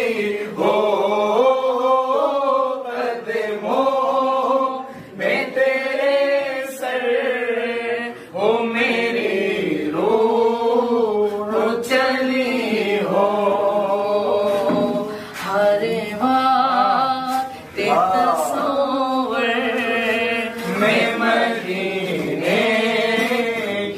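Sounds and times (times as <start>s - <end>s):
person chanting a song: 0.0s - 23.9s.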